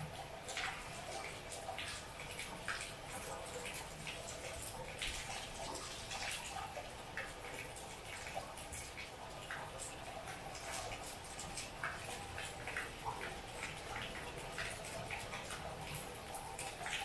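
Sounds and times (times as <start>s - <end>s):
drops dripping and tapping: 0.0s - 17.0s.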